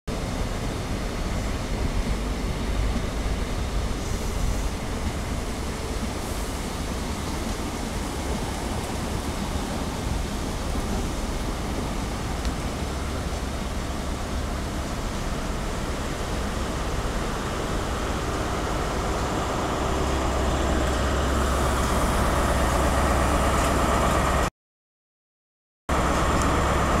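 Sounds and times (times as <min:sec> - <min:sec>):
diesel locomotive hum: 0:00.1 - 0:24.5, 0:25.9 - 0:27.0
train coaches rumbling on rails: 0:00.1 - 0:24.5, 0:25.9 - 0:27.0.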